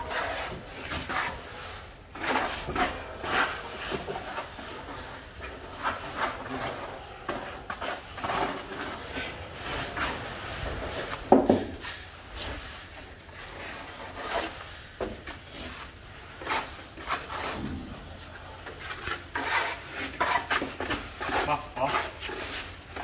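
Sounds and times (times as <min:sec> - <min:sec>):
trowel scraping cement on wall: 0:00.0 - 0:23.0.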